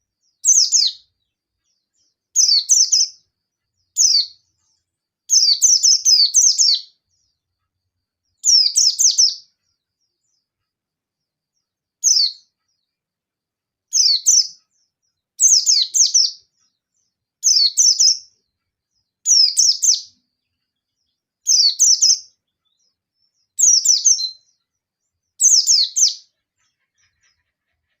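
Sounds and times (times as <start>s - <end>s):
bird twittering song: 0.0s - 28.0s.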